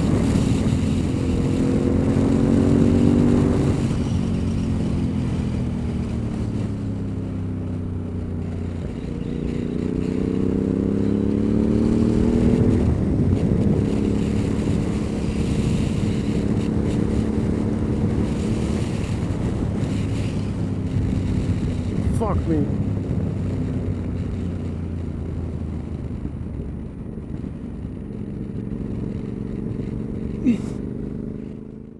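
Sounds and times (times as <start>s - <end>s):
wind rush: 0.0s - 30.6s
motorcycle engine revving: 0.0s - 31.9s.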